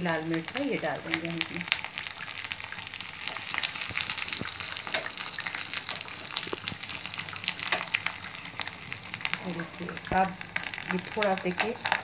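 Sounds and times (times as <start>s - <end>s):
spices sizzling and popping in ghee: 0.0s - 12.0s.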